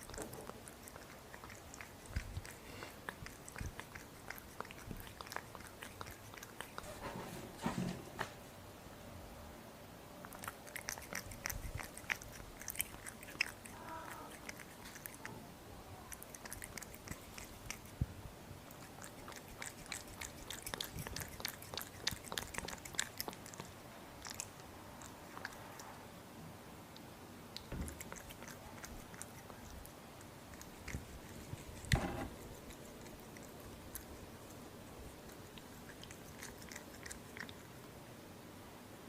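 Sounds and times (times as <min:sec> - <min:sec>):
kitten chewing and licking food: 0:00.0 - 0:08.4, 0:10.1 - 0:38.5.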